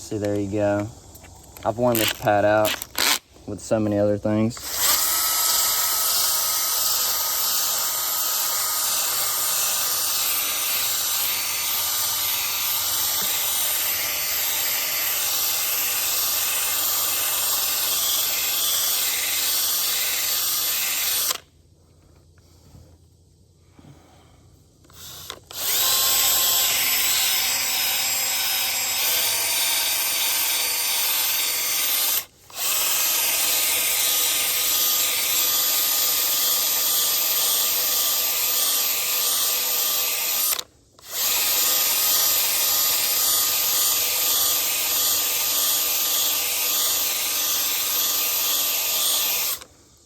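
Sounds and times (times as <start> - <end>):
drill grinding pad on metal: 4.6 - 21.4, 24.9 - 49.7.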